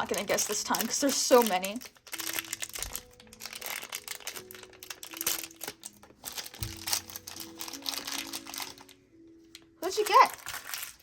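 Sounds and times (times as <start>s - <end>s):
cardboard packaging crinkling and tearing: 0.0s - 11.0s
quiet background music: 0.0s - 11.0s.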